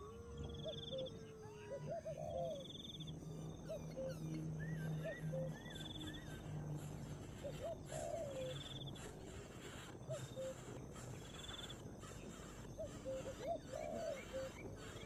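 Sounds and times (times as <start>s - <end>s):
birds chirping: 0.0s - 15.0s
bird trills: 0.6s - 15.0s.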